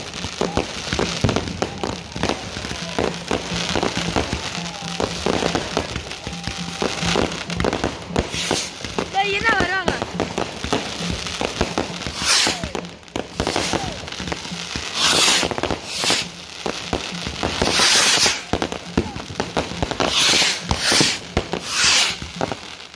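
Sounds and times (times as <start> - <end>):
fireworks bangs and crackles: 0.0 - 22.9
fireworks hissing rushes: 0.0 - 22.9.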